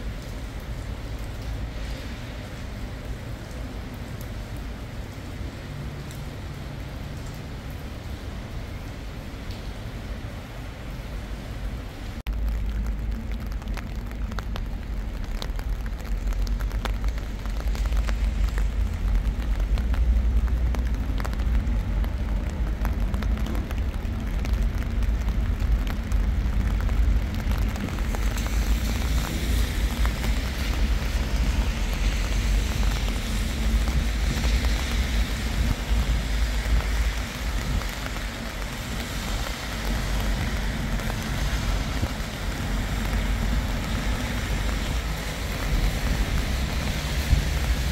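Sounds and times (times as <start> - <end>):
constant low rumble: 0.0 - 47.9
rain drops ticking: 0.0 - 47.9.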